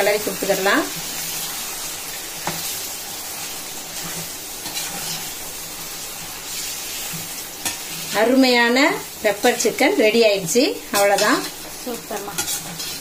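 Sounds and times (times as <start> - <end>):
chicken sizzling in pan: 0.0 - 13.0
spatula rasping on pan: 0.1 - 13.0.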